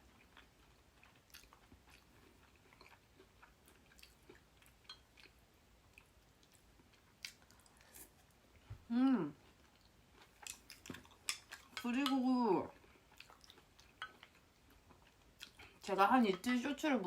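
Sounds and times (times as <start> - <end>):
person chewing: 0.0 - 8.3, 9.3 - 15.8.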